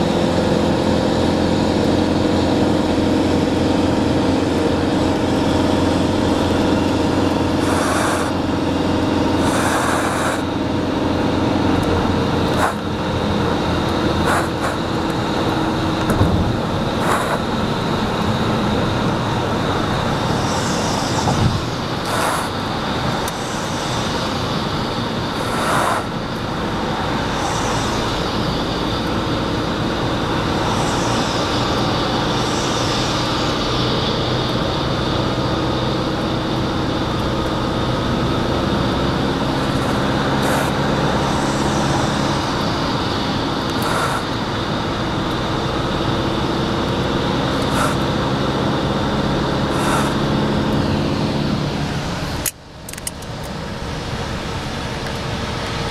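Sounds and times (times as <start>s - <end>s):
engine hum: 0.0s - 55.9s
wind and road noise in car: 0.0s - 55.9s.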